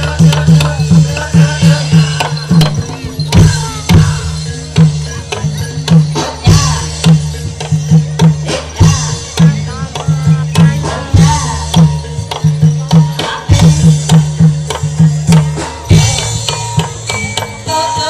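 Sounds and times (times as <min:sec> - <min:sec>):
deep hand drum beats: 0:00.0 - 0:18.0
ringing pitched percussion: 0:00.0 - 0:18.0
wavering melodic line: 0:00.0 - 0:18.0.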